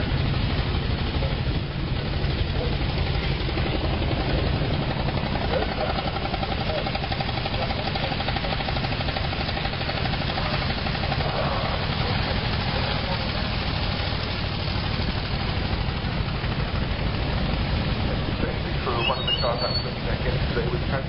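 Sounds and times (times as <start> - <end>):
old car engine running: 0.0 - 21.0
surrounding car engines: 0.0 - 21.0.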